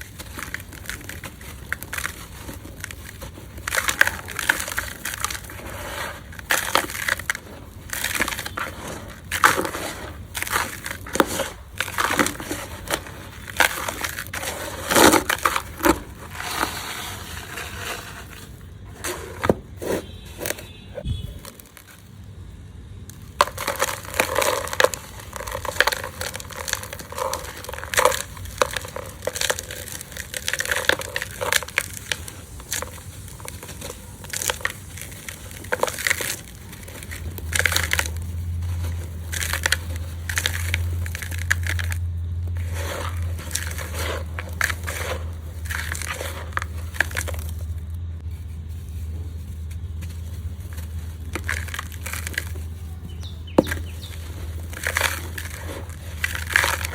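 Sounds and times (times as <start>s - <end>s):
hands crushing gritty dirt: 0.0s - 22.3s, 23.0s - 56.9s
low steady hum: 0.0s - 56.9s.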